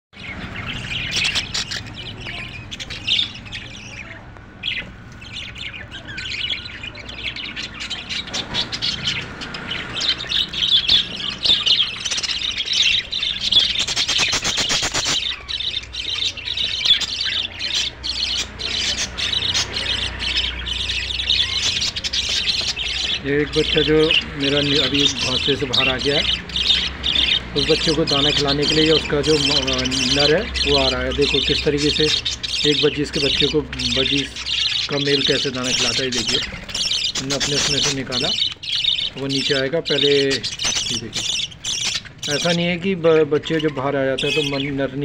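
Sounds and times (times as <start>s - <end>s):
budgerigars chirping and squawking: 0.1s - 45.0s.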